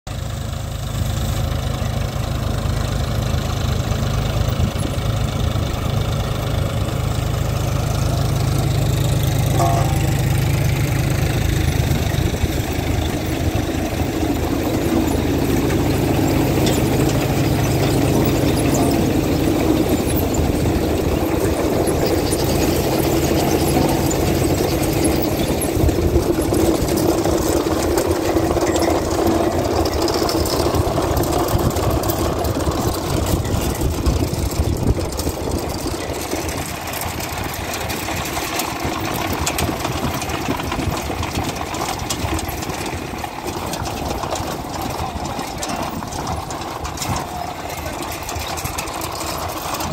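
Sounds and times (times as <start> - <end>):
tractor diesel engine running: 0.1 - 49.9
harvester chains rattling: 1.0 - 49.9.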